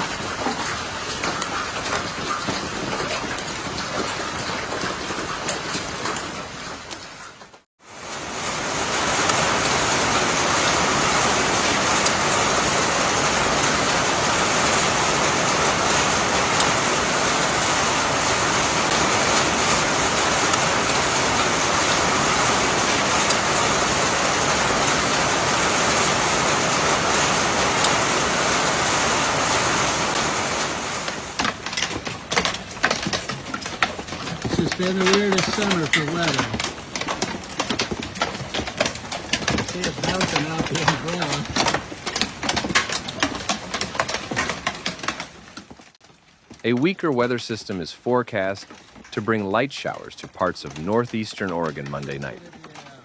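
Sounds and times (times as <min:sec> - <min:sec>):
hail and rain pounding: 0:00.0 - 0:53.0.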